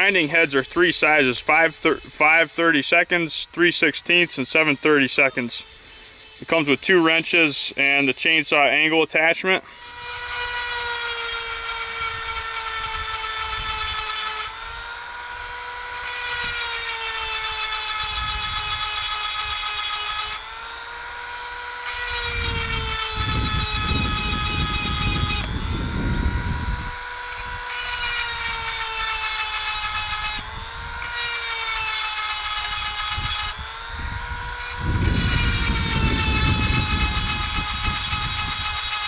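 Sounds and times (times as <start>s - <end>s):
grinder whining: 0.0s - 39.0s.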